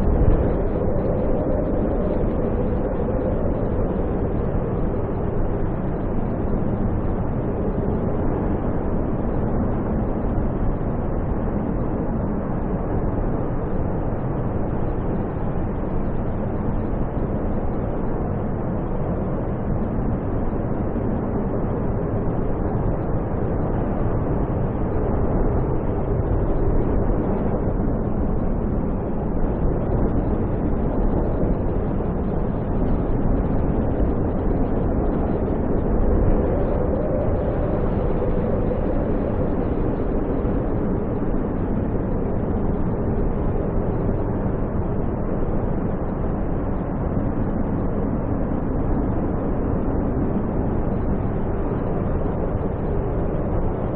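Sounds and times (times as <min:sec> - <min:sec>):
strong snowstorm wind: 0:00.0 - 0:53.9.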